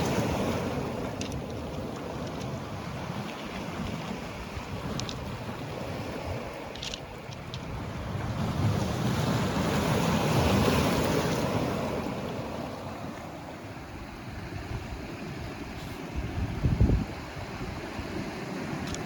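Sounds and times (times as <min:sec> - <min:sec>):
wind buffeting microphone: 0:00.0 - 0:13.1, 0:14.0 - 0:19.0.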